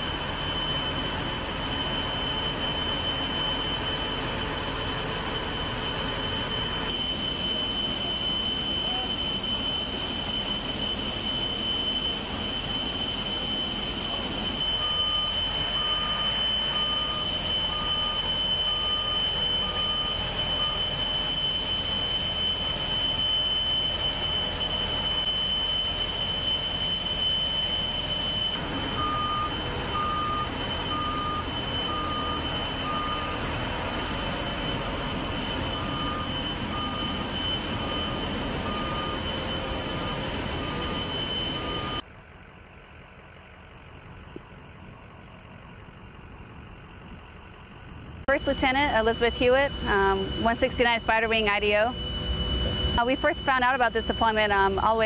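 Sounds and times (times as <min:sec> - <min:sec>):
forklift reverse alarm beeping: 0:00.0 - 0:42.1, 0:43.2 - 0:55.0
high-pitched jet whine: 0:00.0 - 0:42.1, 0:44.8 - 0:55.0
engine rumble: 0:00.0 - 0:55.0.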